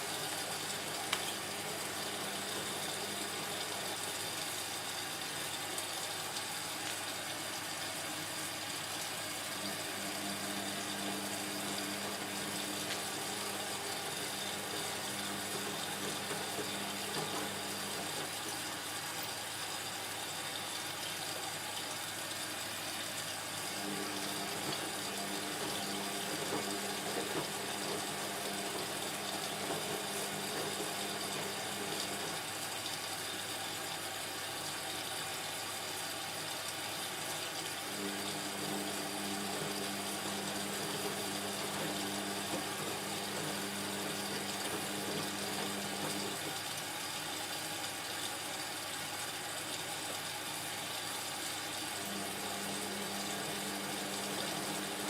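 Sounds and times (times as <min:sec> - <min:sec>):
washing machine drum motor humming: 0:00.0 - 0:55.0.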